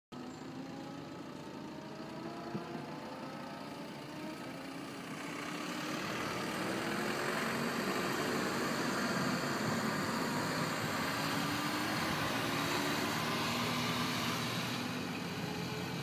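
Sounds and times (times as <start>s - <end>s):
car engine running: 0.2s - 16.0s.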